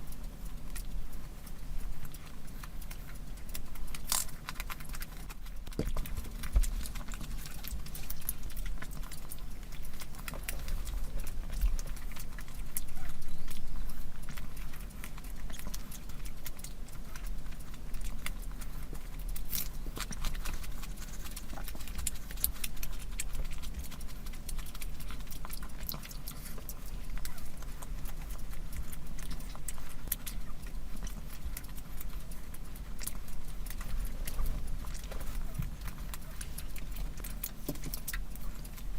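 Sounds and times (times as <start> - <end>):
chewing and mouth clicks: 0.0 - 38.9
steady low hum: 0.0 - 38.9.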